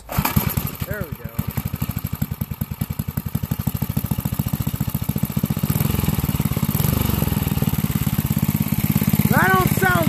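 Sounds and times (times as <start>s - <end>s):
small engine exhaust pulsing: 0.0s - 10.0s.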